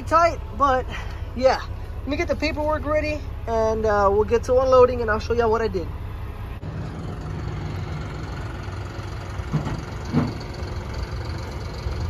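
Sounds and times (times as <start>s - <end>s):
large diesel engine idling: 0.0s - 12.0s.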